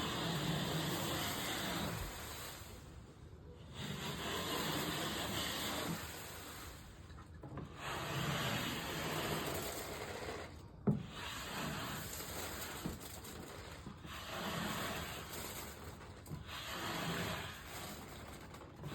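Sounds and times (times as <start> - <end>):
rasping scraping of ceiling texture: 0.0 - 18.9.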